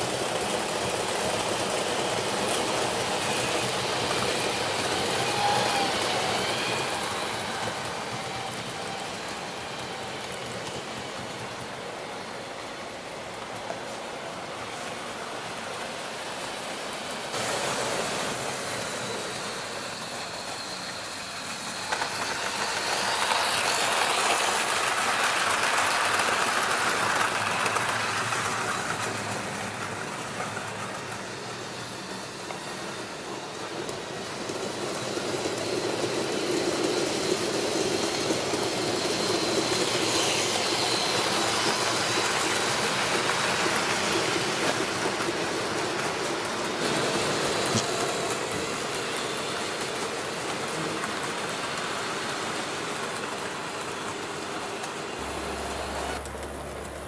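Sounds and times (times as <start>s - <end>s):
light motor whine: 0.0s - 57.0s
model train wheels rumbling: 0.0s - 57.0s.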